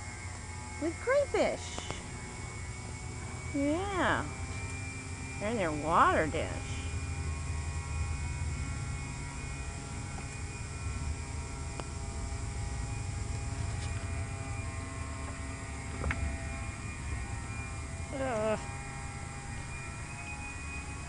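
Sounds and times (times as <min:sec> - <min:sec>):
faint buzz: 0:00.0 - 0:21.0
low hum: 0:00.0 - 0:21.0.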